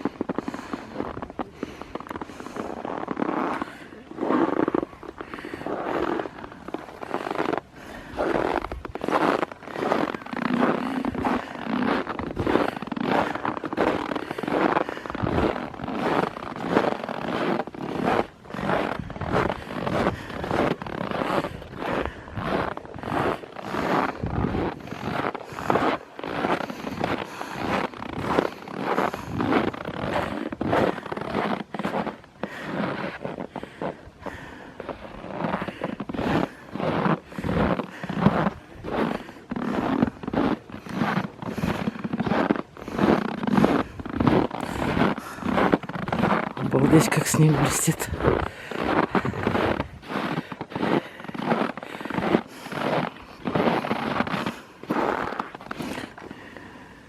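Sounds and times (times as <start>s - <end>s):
footsteps crunching in snow: 0.0s - 57.0s.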